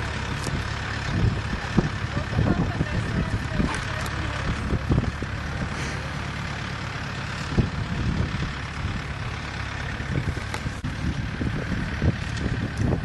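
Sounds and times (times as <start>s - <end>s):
wind buffeting microphone: 0.0s - 5.8s, 7.2s - 13.0s.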